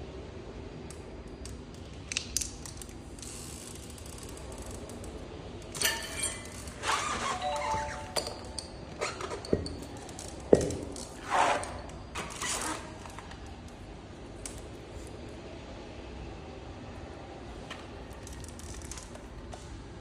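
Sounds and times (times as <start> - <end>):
low room noise: 0.0 - 20.0.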